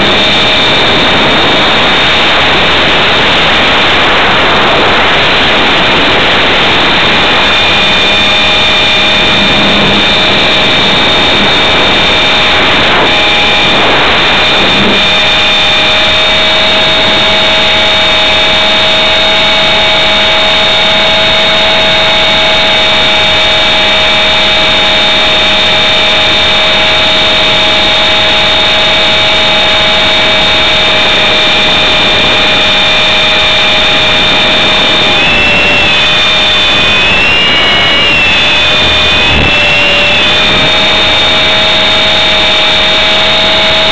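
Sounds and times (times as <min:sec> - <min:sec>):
model helicopter motor whine: 0:00.0 - 0:43.9
rotor rushing noise: 0:00.0 - 0:43.9.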